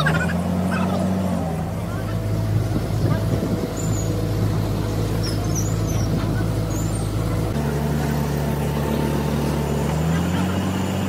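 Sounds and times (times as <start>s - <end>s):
heavy machine engine droning: 0.0s - 11.0s.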